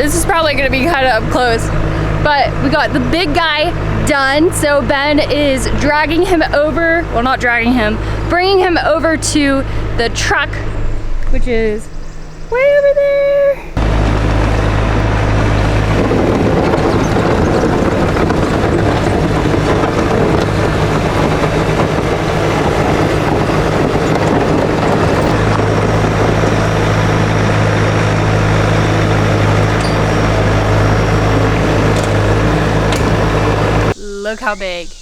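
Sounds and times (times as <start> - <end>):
diesel engine running under load: 0.0 - 12.4, 13.8 - 34.0.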